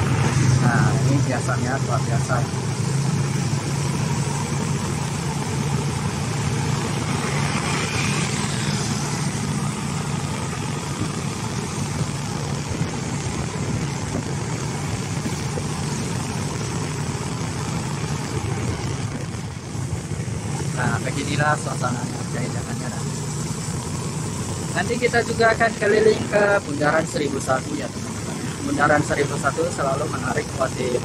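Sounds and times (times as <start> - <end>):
road and traffic noise hiss: 0.0 - 31.0
vehicle engine humming: 0.0 - 31.0.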